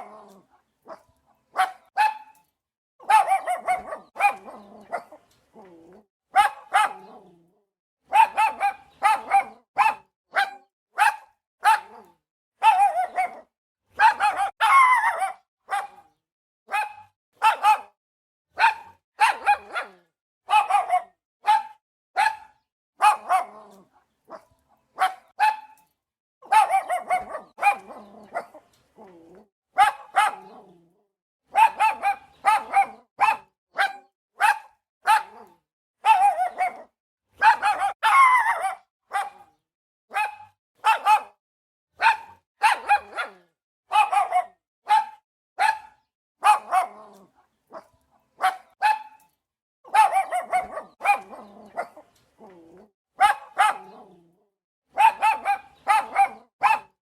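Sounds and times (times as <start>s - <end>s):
dog barking: 0.0s - 5.3s, 6.3s - 7.4s, 8.0s - 25.8s, 26.4s - 30.9s, 31.5s - 49.2s, 49.9s - 52.6s, 53.2s - 54.3s, 54.9s - 57.0s.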